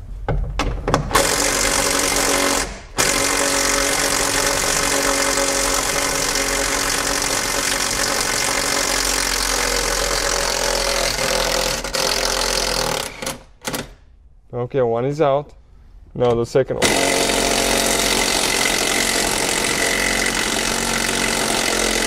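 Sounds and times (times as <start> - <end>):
impact driver hammering: 0.9 - 13.9, 16.8 - 22.0.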